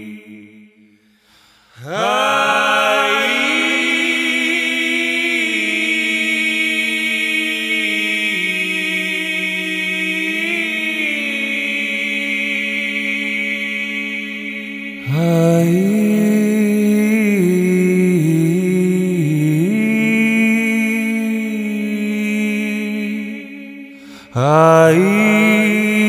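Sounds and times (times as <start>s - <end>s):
a cappella harmony singing: 0.0s - 0.8s, 1.7s - 26.0s.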